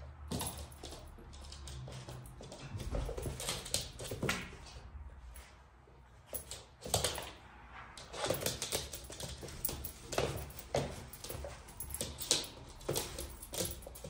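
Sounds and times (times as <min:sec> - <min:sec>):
puppy paws scuffling on floor: 0:00.0 - 0:14.0.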